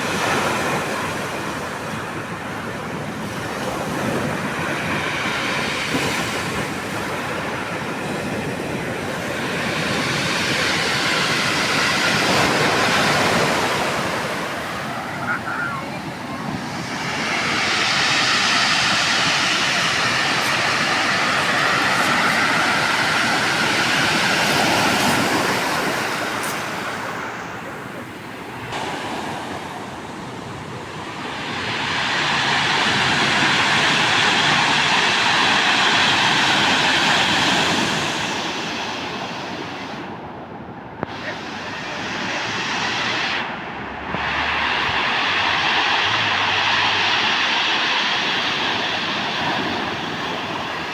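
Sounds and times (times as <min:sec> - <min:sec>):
ocean surf breaking: 0:00.0 - 0:50.9.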